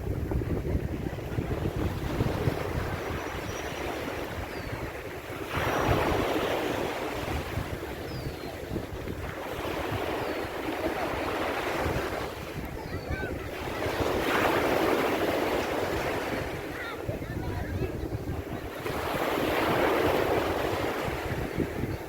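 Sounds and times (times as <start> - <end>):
ocean waves breaking on beach: 0.0 - 22.0
wind buffeting microphone: 0.0 - 22.0.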